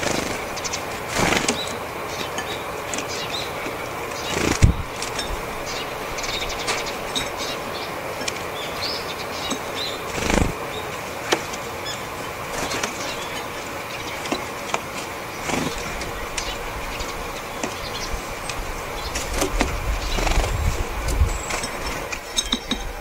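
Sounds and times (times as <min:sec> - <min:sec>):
small bird wings whirring: 0:00.0 - 0:23.0.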